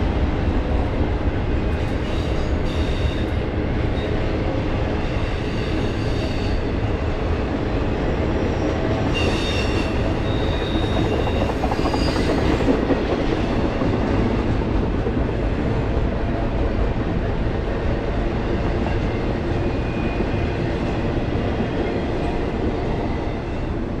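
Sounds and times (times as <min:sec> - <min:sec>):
freight train wheels rumbling on rail: 0:00.0 - 0:24.0.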